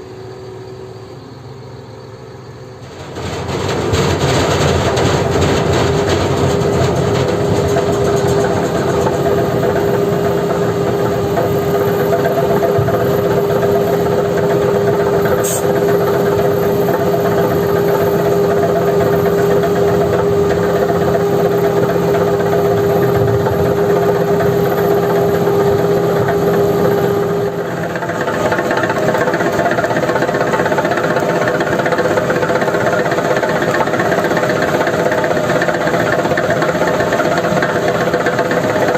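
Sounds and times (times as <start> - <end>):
diesel engine running under load: 0.0 - 38.9
steady whine: 0.0 - 38.9.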